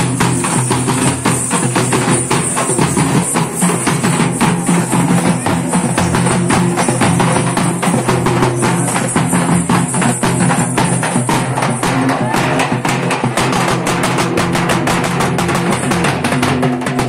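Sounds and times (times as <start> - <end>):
drums beaten with sticks: 0.0 - 17.0.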